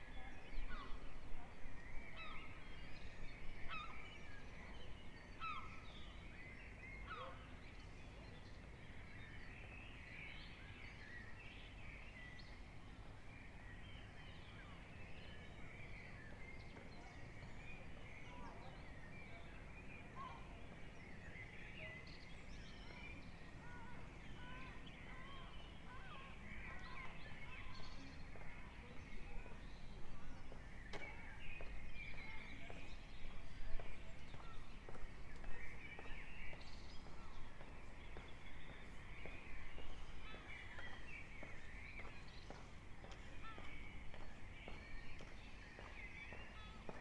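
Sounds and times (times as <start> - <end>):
songbirds chirping and trilling: 0.0 - 47.0.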